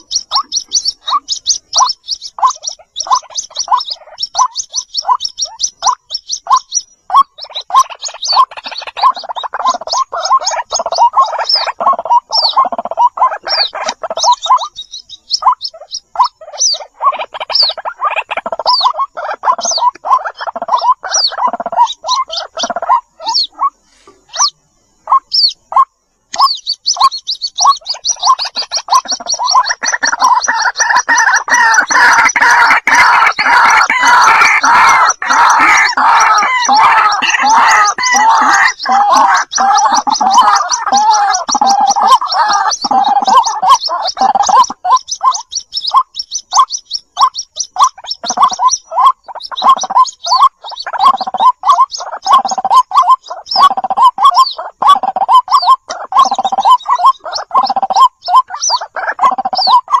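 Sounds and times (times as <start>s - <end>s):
waterhen chicks calling: 0.0s - 60.0s.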